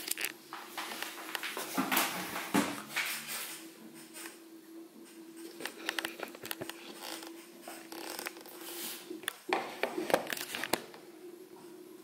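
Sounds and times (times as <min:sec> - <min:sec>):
washing machine hum: 0:00.0 - 0:12.0.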